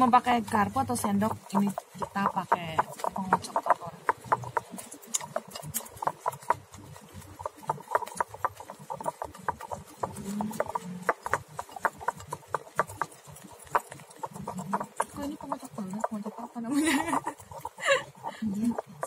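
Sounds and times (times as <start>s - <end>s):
whisk clicking against bowl: 0.0s - 19.0s.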